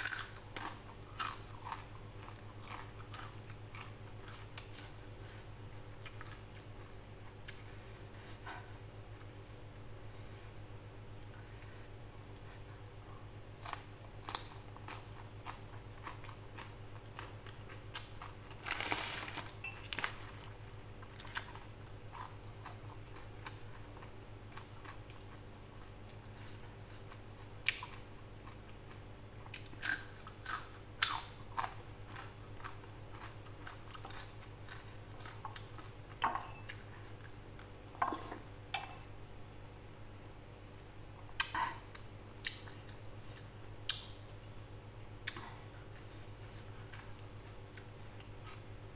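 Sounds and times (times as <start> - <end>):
chewing with crisp crunches: 0.0 - 9.4, 11.2 - 38.5, 41.2 - 44.3, 45.2 - 48.8
steady background hum: 0.0 - 48.9.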